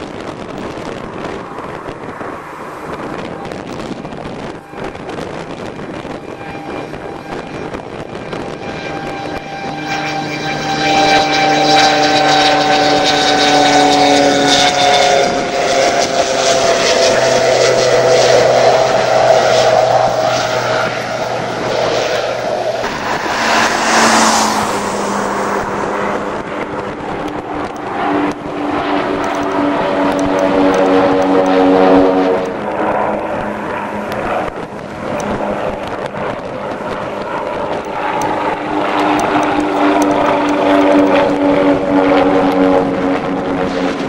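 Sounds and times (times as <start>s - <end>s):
propeller aircraft flying past: 0.0s - 44.0s.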